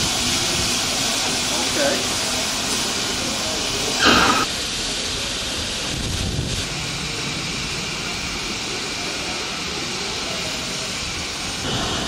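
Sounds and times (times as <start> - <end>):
short loud steam blast: 0.0 - 12.0
steam locomotive hissing: 0.0 - 12.0.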